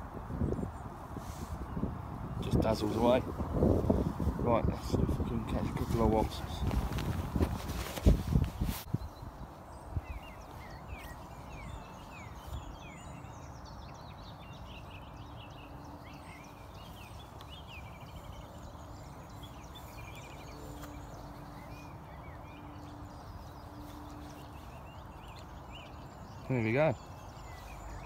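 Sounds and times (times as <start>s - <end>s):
small birds singing: 0.0s - 28.0s.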